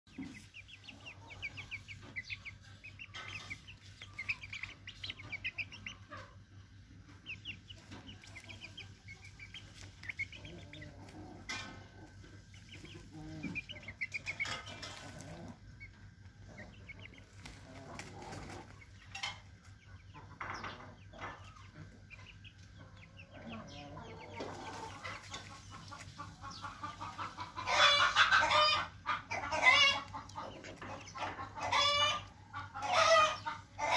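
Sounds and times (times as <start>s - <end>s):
chicks cheeping and clucking: 0.1s - 33.9s.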